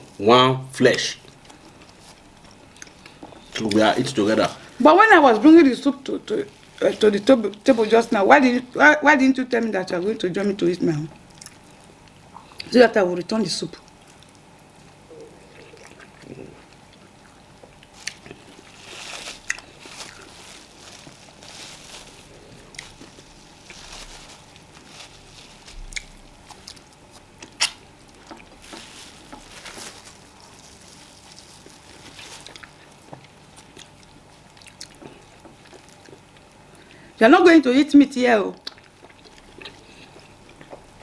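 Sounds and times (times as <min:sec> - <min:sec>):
chewing and wet mouth sounds: 0:01.2 - 0:08.0, 0:11.1 - 0:12.8, 0:13.7 - 0:37.0, 0:38.5 - 0:41.0.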